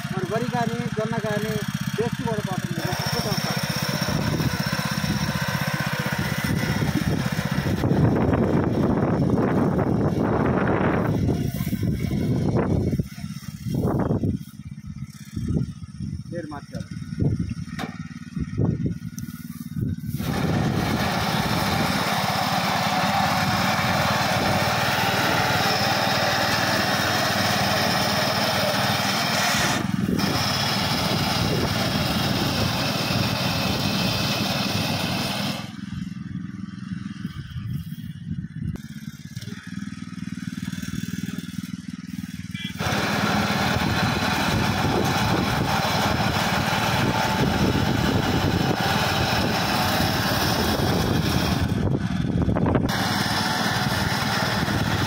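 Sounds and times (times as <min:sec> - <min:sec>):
power weeder engine running: 0:00.0 - 0:55.0.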